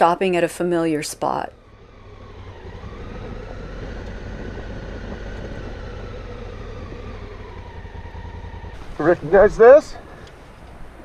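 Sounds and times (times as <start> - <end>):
motorcycle engine running: 1.2 - 11.0.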